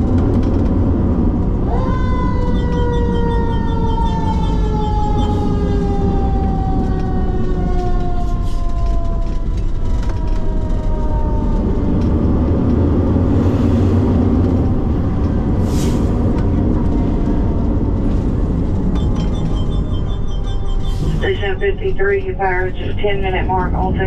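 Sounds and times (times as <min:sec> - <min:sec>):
truck engine rumble: 0:00.0 - 0:24.0
fire engine siren winding down: 0:01.2 - 0:24.0.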